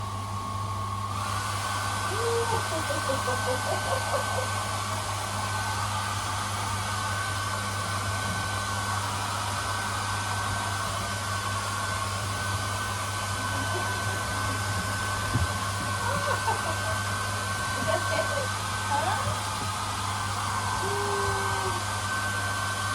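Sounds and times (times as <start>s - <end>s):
hair dryer blowing: 0.0s - 22.9s.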